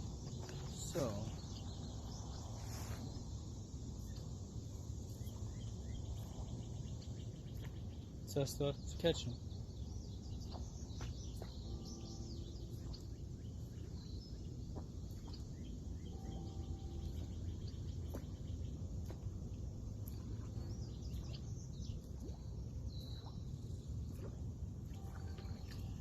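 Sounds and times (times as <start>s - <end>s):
birds chirping: 0.0s - 24.4s
steady low rumble: 0.0s - 26.0s.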